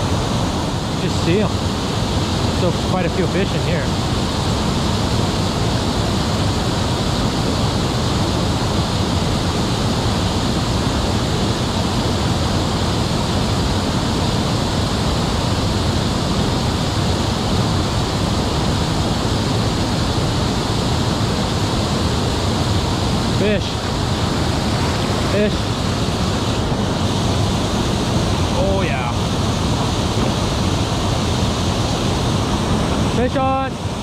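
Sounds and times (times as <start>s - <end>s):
water spilling over a dam: 0.0s - 34.0s.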